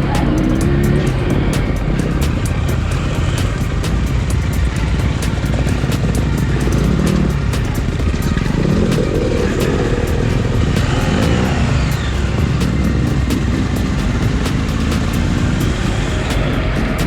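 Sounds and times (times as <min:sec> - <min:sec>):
motorcycle engine revving: 0:00.0 - 0:17.0
sharp ticks: 0:00.0 - 0:17.0.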